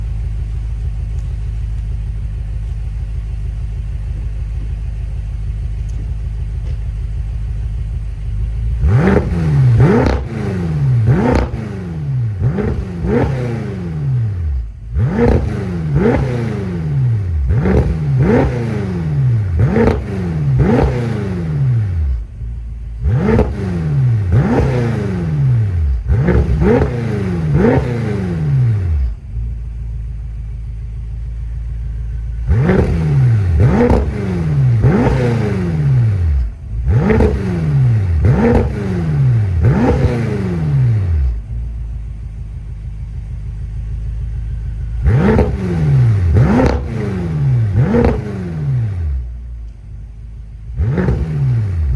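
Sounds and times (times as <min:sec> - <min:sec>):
car engine idling: 0:00.0 - 0:51.9
car engine revving: 0:00.0 - 0:51.9.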